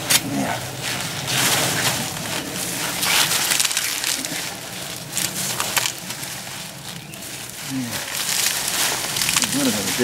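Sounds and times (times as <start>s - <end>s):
soil and roots crunching: 0.0s - 10.0s.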